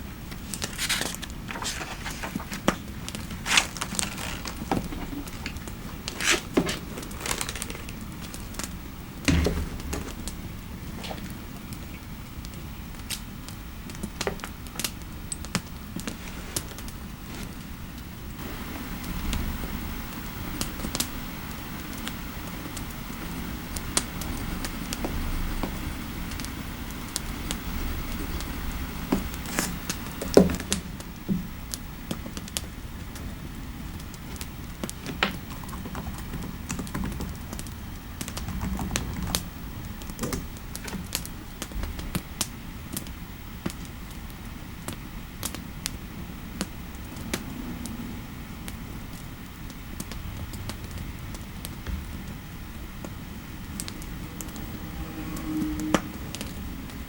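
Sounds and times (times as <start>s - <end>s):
low fireplace ambience: 0.0s - 57.0s.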